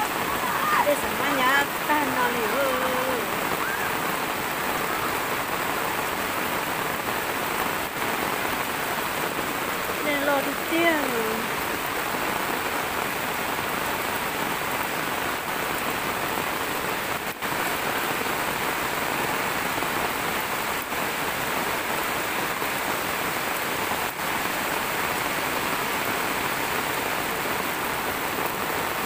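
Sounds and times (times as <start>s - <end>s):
heavy rain on water: 0.0s - 29.0s.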